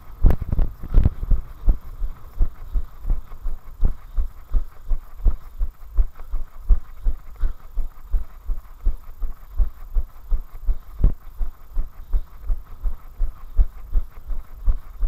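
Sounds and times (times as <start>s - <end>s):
running footsteps on tarmac: 0.0s - 15.0s.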